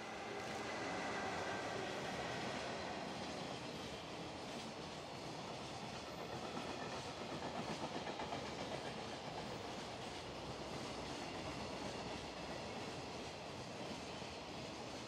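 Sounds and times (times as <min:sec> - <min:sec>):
freight train wheels on rails: 0:00.0 - 0:15.0.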